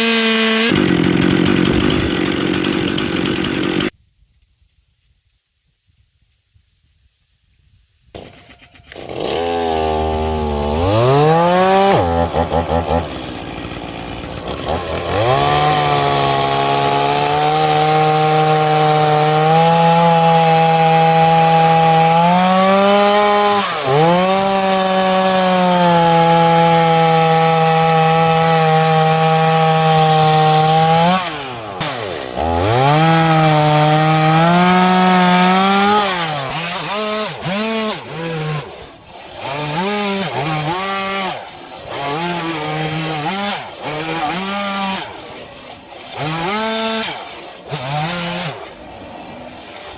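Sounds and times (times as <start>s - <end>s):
chainsaw cutting wood: 0.0s - 4.0s, 8.2s - 49.9s.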